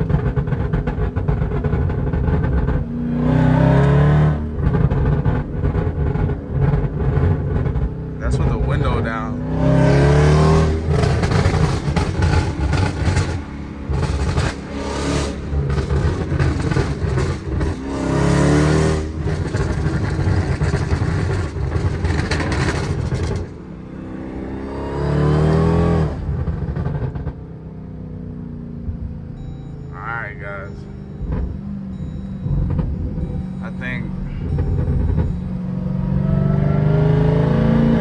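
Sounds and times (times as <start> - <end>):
car engine accelerating hard: 0.0 - 28.3, 28.9 - 38.0.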